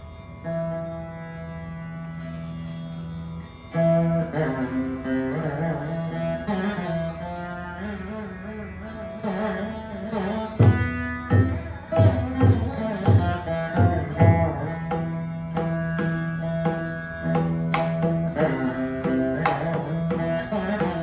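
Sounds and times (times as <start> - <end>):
veena melody with sliding notes: 0.0 - 21.0.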